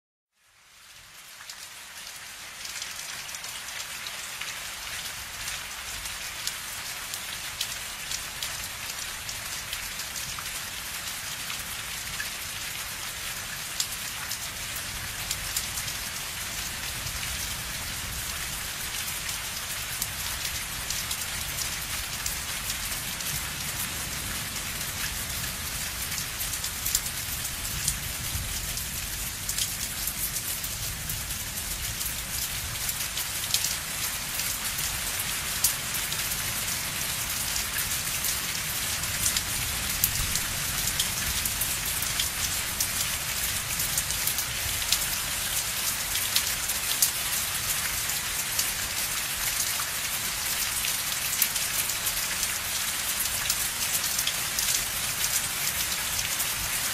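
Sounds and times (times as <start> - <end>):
steady rain falling: 0.3 - 56.9.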